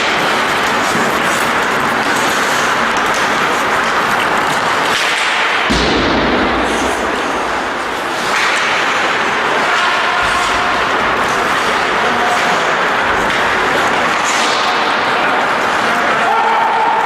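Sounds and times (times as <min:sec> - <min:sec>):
skates scraping on ice: 0:00.0 - 0:05.7, 0:06.4 - 0:16.4
hockey sticks and puck clacking: 0:00.0 - 0:17.0.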